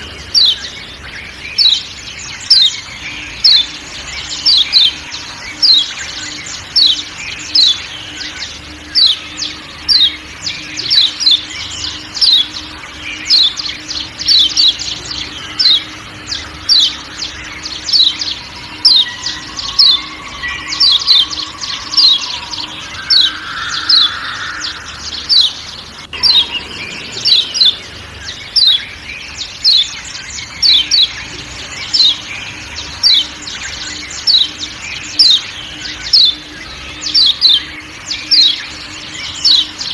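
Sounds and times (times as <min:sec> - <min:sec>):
faint forest background: 0:00.0 - 0:39.9
white-eye birds chirping: 0:00.0 - 0:39.9.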